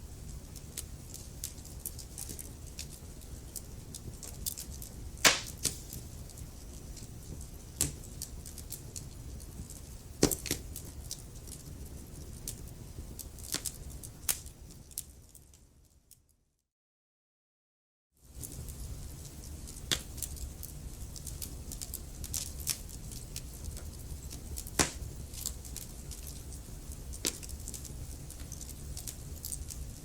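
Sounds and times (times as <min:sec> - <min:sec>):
wood fire crackling: 0:00.0 - 0:15.9, 0:18.2 - 0:30.0.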